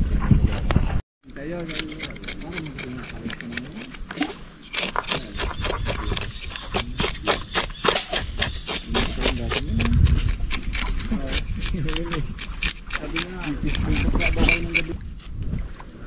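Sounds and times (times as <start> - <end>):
knife scraping fish scales: 1.6 - 15.0.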